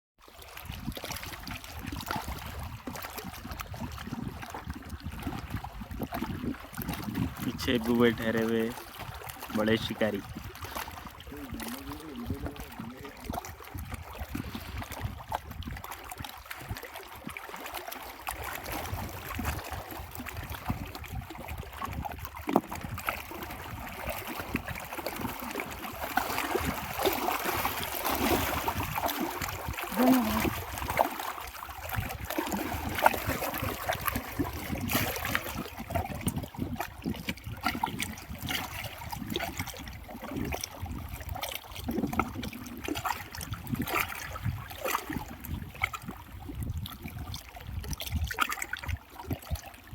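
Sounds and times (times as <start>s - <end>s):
water splashing and trickling: 0.2s - 49.9s.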